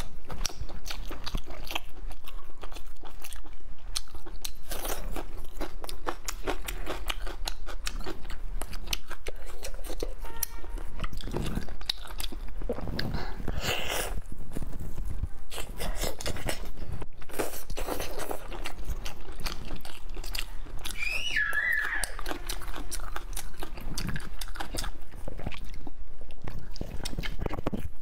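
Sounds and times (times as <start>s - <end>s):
person chewing with wet smacks: 0.0s - 28.0s.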